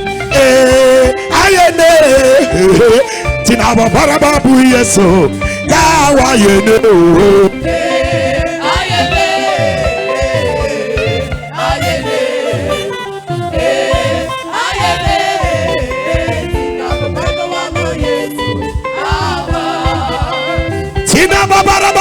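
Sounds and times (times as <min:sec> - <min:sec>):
drum beat: 0:00.0 - 0:22.0
gospel band playing: 0:00.0 - 0:22.0
singing: 0:00.4 - 0:22.0.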